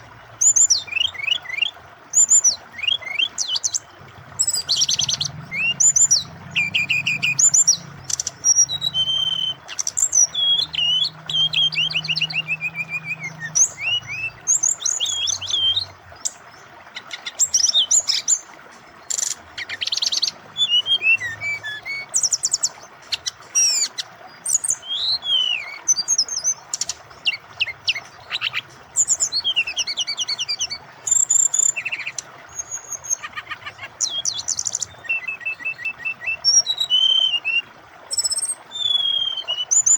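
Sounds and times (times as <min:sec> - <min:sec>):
flycatcher singing: 0:00.0 - 0:18.4, 0:19.0 - 0:39.9
flowing water: 0:00.0 - 0:39.9.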